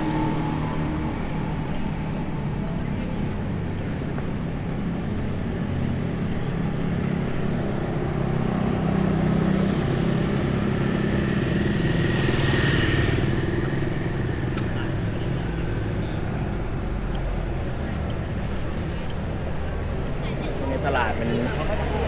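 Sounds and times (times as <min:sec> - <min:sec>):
cars passing: 0:00.0 - 0:22.0
motorcycles passing: 0:00.0 - 0:22.0.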